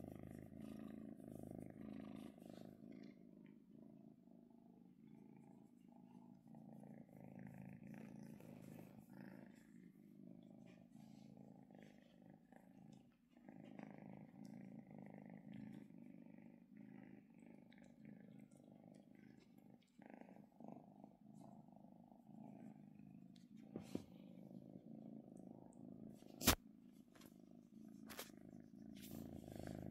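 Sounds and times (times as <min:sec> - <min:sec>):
kitten purring: 0:00.0 - 0:29.9.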